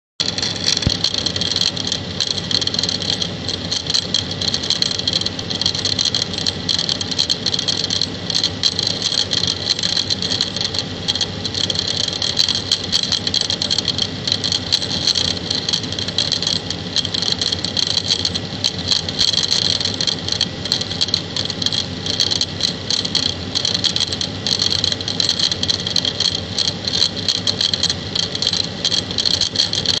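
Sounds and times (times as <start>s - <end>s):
washing machine pump knocking rattle: 0.2s - 30.0s.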